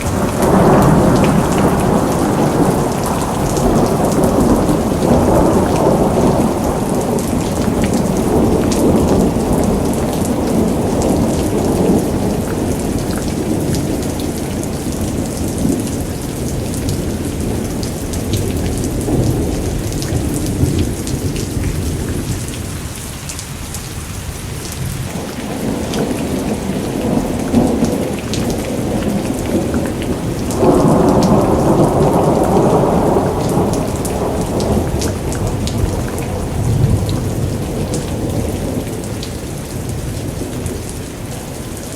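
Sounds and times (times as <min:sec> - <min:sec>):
rolling thunder: 0:00.0 - 0:22.8, 0:24.5 - 0:41.9
steady rain: 0:00.0 - 0:41.9.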